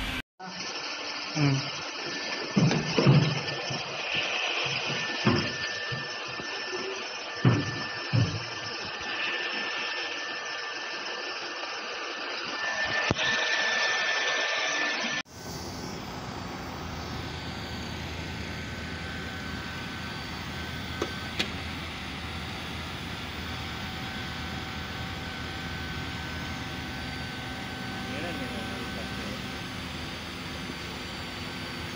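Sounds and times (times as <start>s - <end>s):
hot-air blower rushing: 0.0s - 31.9s.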